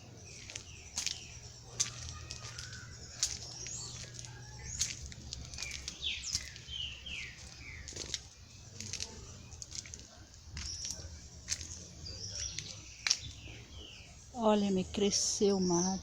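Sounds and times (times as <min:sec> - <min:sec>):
steady low hum: 0:00.0 - 0:15.1
birds chirping: 0:00.0 - 0:16.0.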